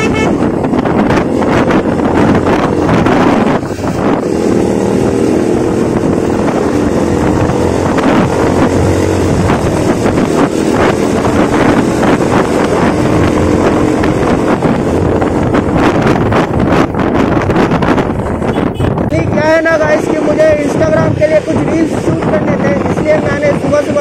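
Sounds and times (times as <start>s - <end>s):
motorcycle engine running: 0.0s - 23.5s
wind rushing over microphone: 0.0s - 24.0s.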